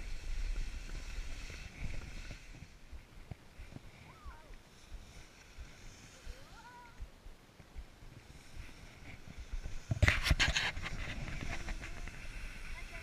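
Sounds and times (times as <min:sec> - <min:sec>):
skis scraping over snow: 0:00.0 - 0:06.9, 0:08.1 - 0:13.0
wind on microphone: 0:00.0 - 0:13.0.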